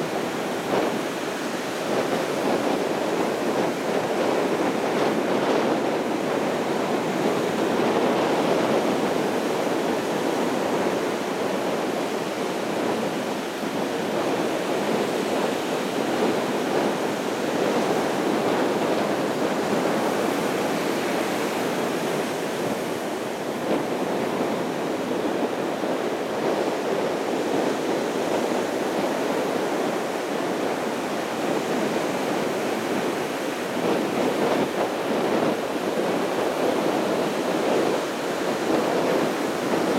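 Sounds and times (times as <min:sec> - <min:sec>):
surf washing onto beach: 0:00.0 - 0:39.9.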